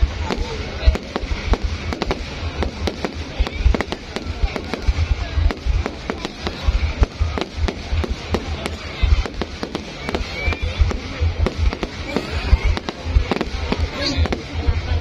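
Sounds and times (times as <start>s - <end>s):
deep low rumble: 0.0s - 15.0s
fireworks banging: 0.0s - 15.0s.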